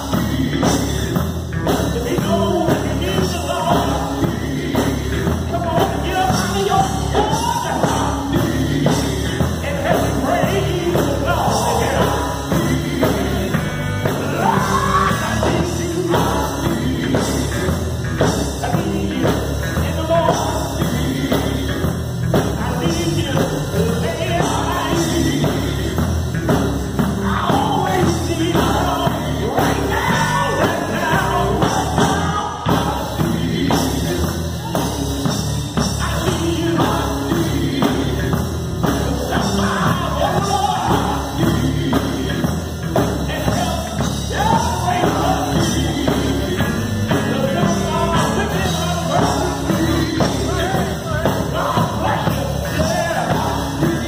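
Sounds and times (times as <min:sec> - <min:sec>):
drums: 0:00.0 - 0:54.0
electric guitar: 0:00.0 - 0:54.0
men singing gospel: 0:00.0 - 0:54.0.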